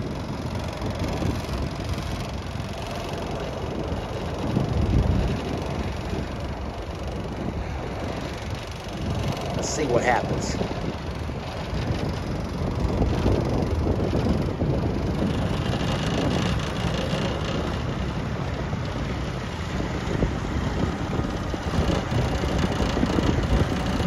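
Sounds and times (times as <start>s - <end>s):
outboard motor running: 0.0s - 24.0s
wind buffeting microphone: 0.0s - 24.0s.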